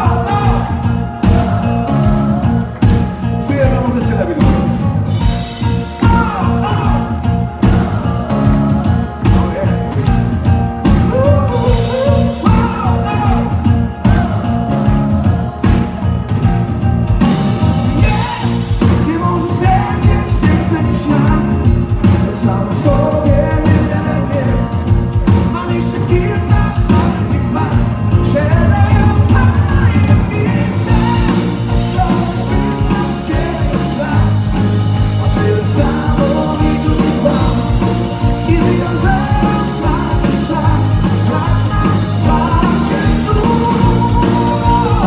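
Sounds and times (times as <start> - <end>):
man singing: 0.0 - 4.8, 5.6 - 16.0, 17.9 - 45.0
pop-rock band playing: 0.0 - 45.0.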